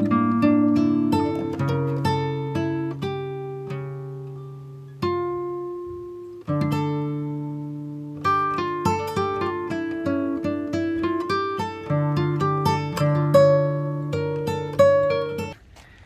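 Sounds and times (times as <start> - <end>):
acoustic guitar plucked notes: 0.0 - 15.6.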